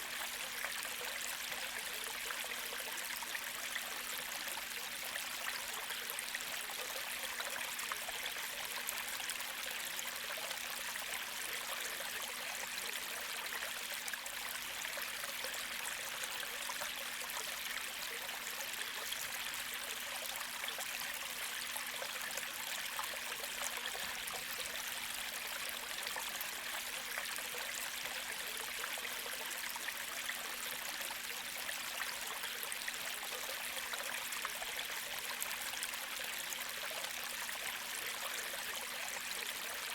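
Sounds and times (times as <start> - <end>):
creek trickling over stones: 0.0 - 39.9.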